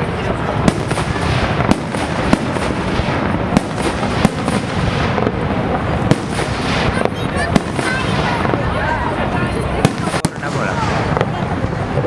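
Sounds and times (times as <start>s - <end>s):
fireworks bangs: 0.0s - 12.0s
steady rushing noise: 0.0s - 12.0s.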